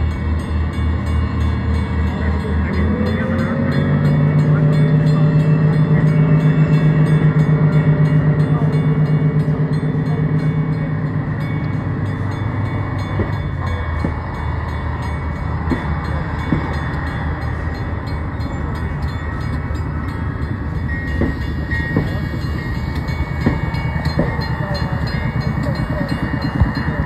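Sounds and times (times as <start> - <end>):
diesel railcar engines throbbing: 0.0 - 27.0
wheels clanking on rails: 0.0 - 27.0.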